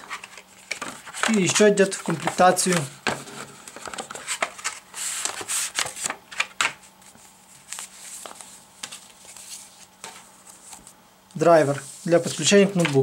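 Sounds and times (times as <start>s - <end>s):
paper rustling and crackling: 0.0s - 11.0s, 11.7s - 13.0s.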